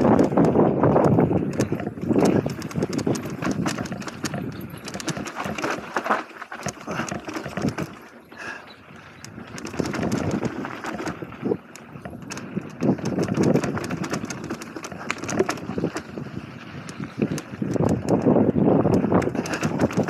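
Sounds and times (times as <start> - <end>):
bike rattling over bumps: 0.0 - 20.0
tyres on loose dirt and gravel: 0.0 - 20.0.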